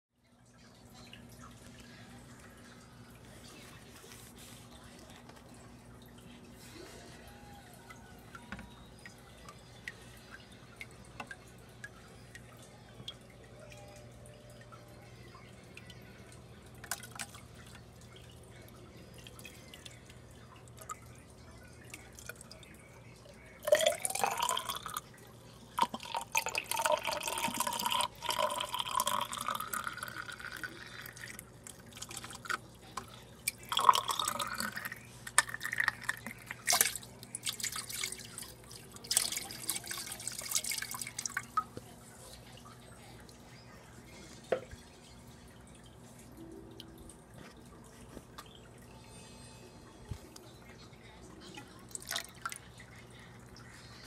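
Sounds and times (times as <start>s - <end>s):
faint water drips: 0.2s - 54.0s.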